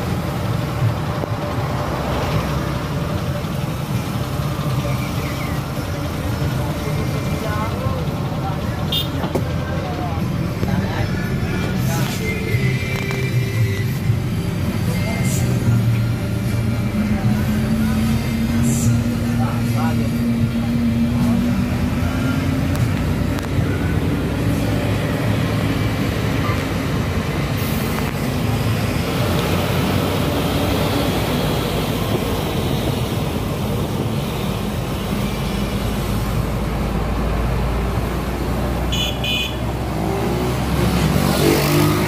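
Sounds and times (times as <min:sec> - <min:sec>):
bus engine running: 0:00.0 - 0:42.0
rushing wind and road noise: 0:00.0 - 0:42.0.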